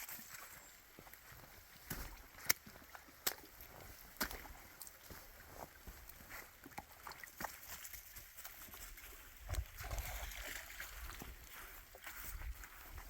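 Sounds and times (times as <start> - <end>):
footsteps on wet trail: 0.0 - 13.0.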